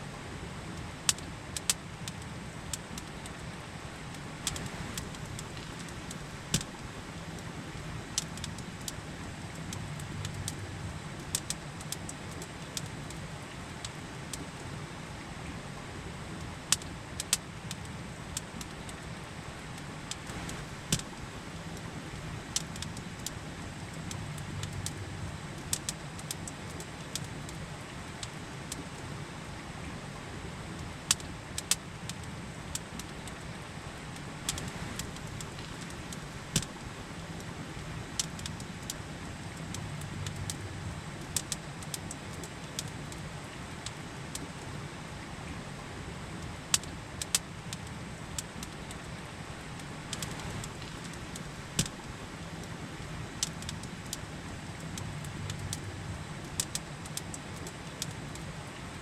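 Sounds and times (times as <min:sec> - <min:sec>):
campfire crackling: 0:00.1 - 0:59.0.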